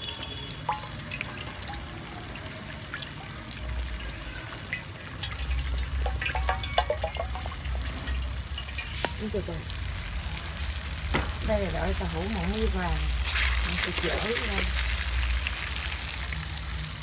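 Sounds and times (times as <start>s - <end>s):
oil trickling into a wok: 0.0s - 17.0s.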